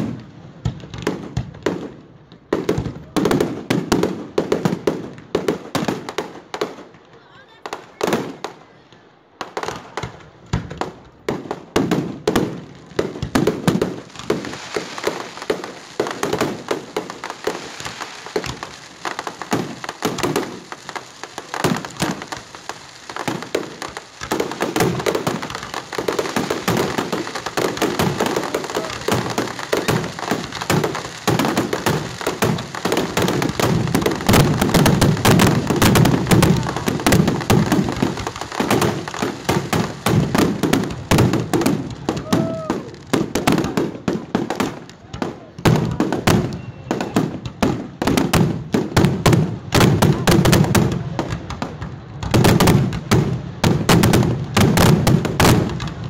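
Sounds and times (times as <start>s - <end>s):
fireworks bursts and bangs: 0.0s - 56.0s
fireworks crackling: 0.0s - 56.0s.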